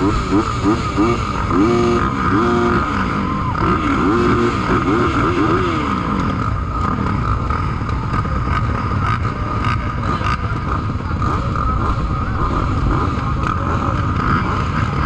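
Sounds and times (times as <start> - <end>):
constant high whine: 0.0 - 15.0
dirt bike engines revving: 0.0 - 15.0.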